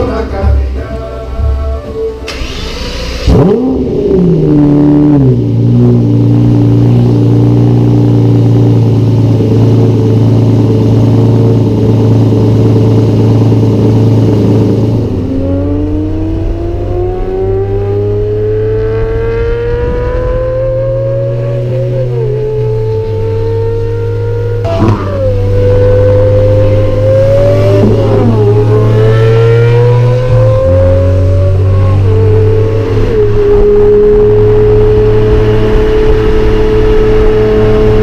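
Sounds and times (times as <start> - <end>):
sports car engine starting and revving: 1.5 - 38.0.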